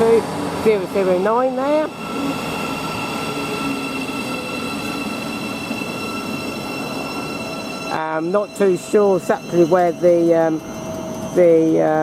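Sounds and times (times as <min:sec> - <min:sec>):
diesel train passing: 0:00.0 - 0:12.0
whining tones: 0:01.3 - 0:12.0.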